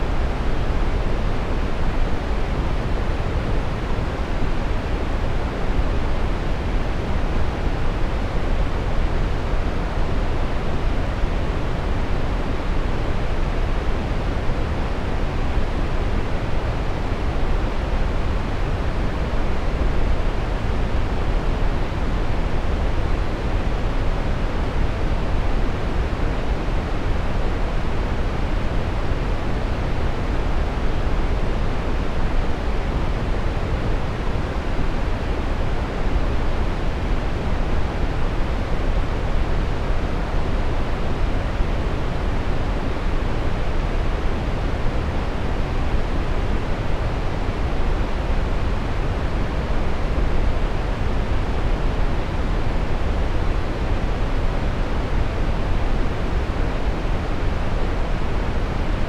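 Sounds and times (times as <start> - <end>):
steady brown noise hiss: 0.0 - 59.0.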